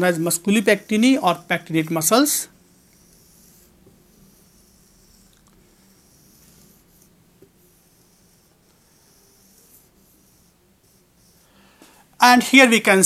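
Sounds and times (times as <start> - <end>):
marker pen on whiteboard: 0.0 - 13.0.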